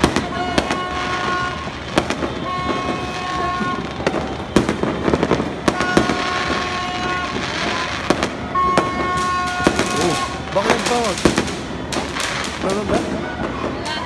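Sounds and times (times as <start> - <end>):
firework bangs: 0.0 - 14.0
fireworks crackling: 0.0 - 14.0.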